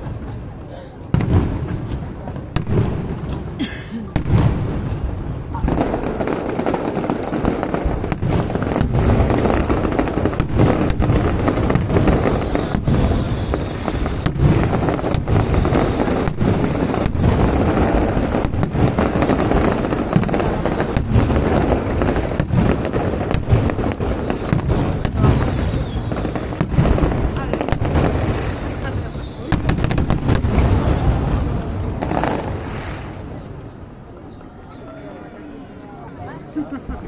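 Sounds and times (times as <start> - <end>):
fireworks bursting and crackling: 0.0 - 34.5
sharp firework bangs: 1.1 - 33.3.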